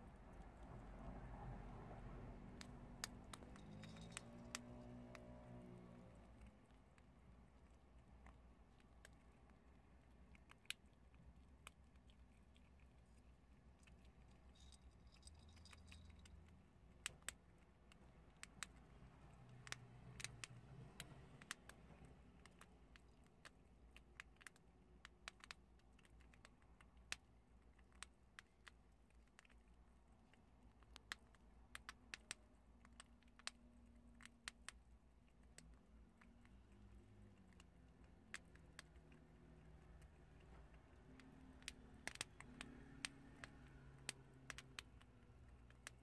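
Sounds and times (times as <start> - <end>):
animals crunching dried chickpeas: 0.0 - 46.0
faint low hum: 0.0 - 46.0.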